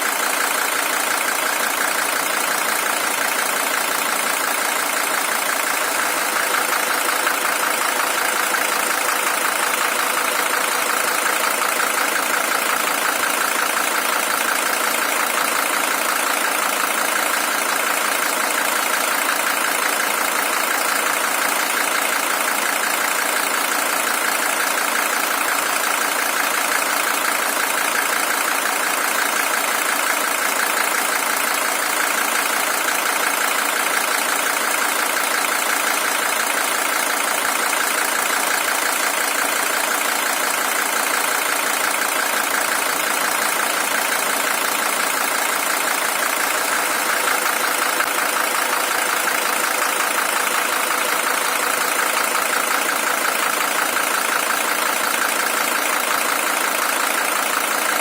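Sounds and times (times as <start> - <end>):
diesel engine idling with clatter: 0.0 - 58.0.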